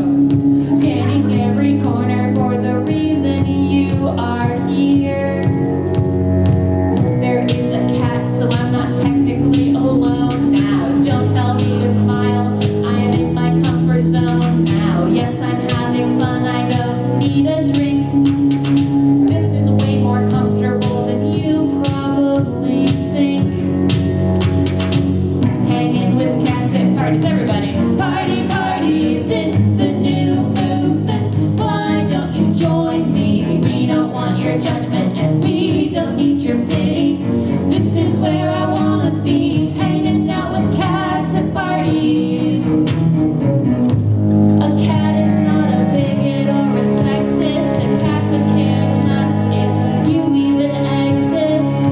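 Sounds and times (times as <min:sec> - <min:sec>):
woman singing into a microphone: 0:00.0 - 0:06.1, 0:07.0 - 0:23.8, 0:25.6 - 0:43.0, 0:44.6 - 0:51.9
steady beat: 0:00.0 - 0:45.2
cello: 0:00.0 - 0:51.9
string accompaniment: 0:00.0 - 0:51.9.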